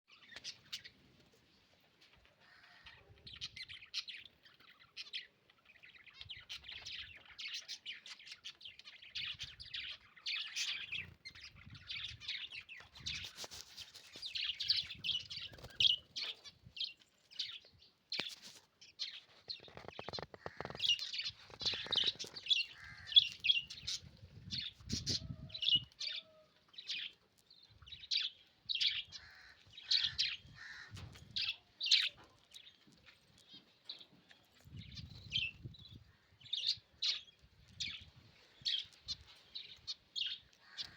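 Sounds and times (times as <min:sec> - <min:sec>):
lovebirds chirping: 0:00.1 - 0:40.9.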